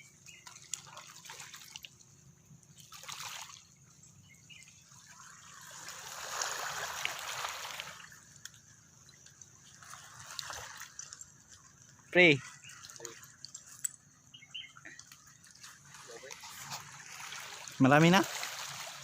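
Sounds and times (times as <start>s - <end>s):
water sloshing and trickling: 0.0s - 19.0s.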